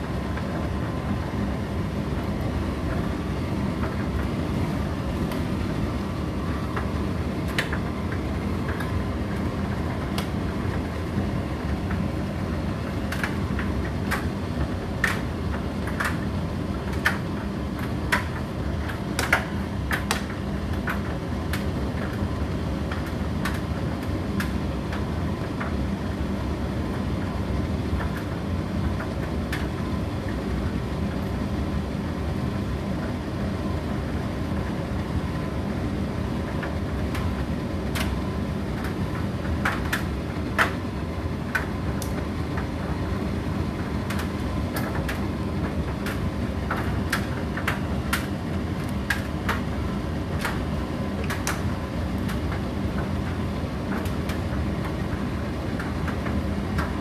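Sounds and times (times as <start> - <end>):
tumble dryer running: 0.0 - 57.0.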